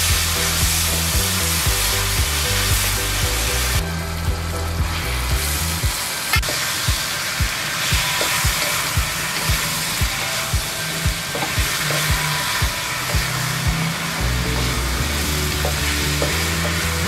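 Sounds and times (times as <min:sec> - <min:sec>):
background music with beat: 0:00.0 - 0:17.0
food sizzling in hot oil: 0:00.0 - 0:17.0.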